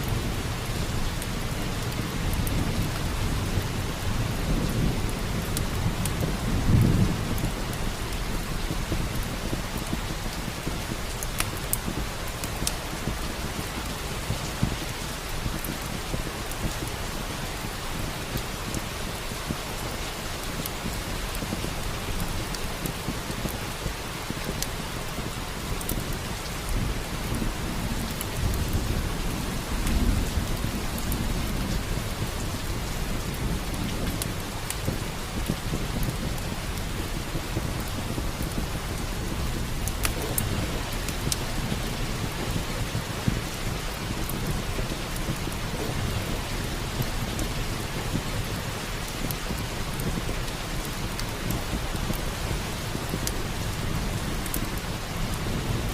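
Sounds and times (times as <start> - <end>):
thunder rumbling: 0.0 - 16.9, 26.0 - 55.9
steady rain: 0.0 - 55.9
wood fire crackling: 0.0 - 55.9.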